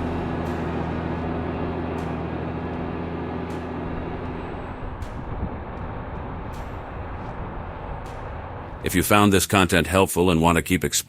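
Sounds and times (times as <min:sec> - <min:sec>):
rough rumbling noise: 0:00.0 - 0:10.0
tractor diesel engine humming: 0:00.0 - 0:11.0.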